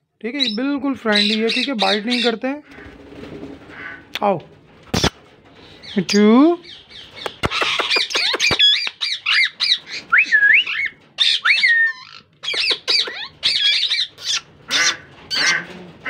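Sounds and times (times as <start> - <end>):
parakeets squawking and chattering: 0.3 - 4.2, 4.9 - 16.0.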